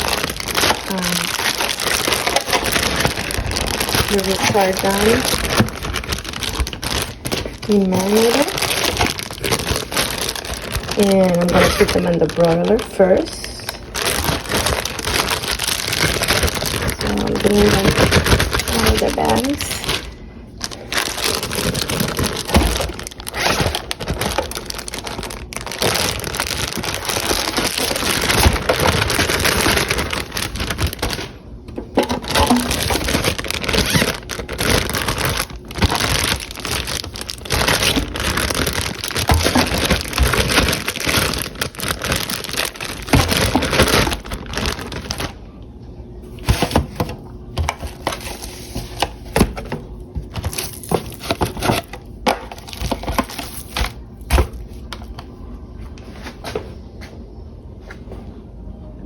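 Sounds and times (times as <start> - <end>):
plastic bags crinkling: 0.0 - 45.5, 46.2 - 55.3.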